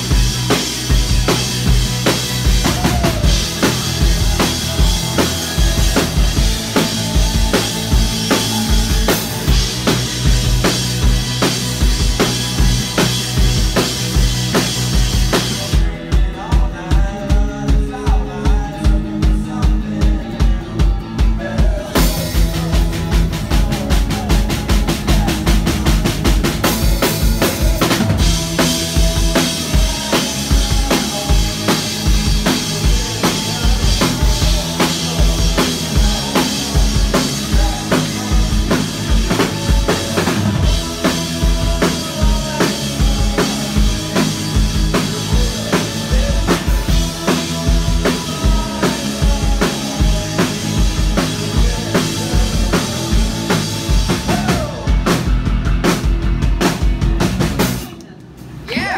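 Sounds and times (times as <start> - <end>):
drum kit beat: 0.0 - 58.0
rock band playing live: 0.0 - 58.9.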